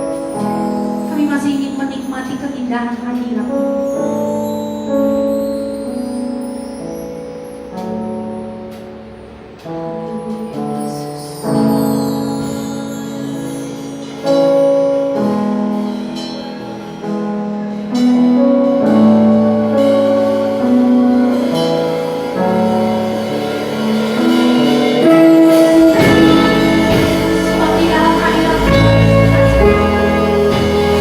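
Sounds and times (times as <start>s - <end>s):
piano chords: 0.0s - 31.0s.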